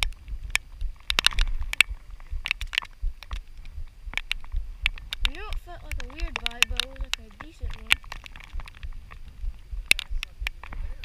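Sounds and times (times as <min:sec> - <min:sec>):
raindrops tapping on camera: 0:00.0 - 0:11.0
wind rumble on microphone: 0:00.0 - 0:11.0.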